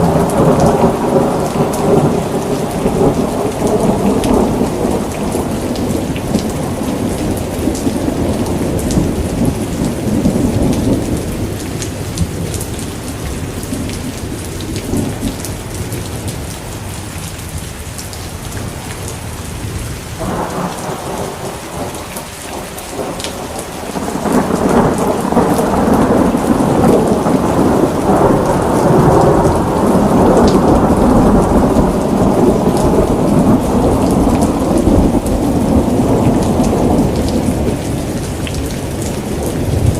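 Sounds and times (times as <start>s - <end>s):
deep rumble of thunder: 0.0s - 16.5s, 18.0s - 39.9s
rain falling: 0.0s - 39.9s.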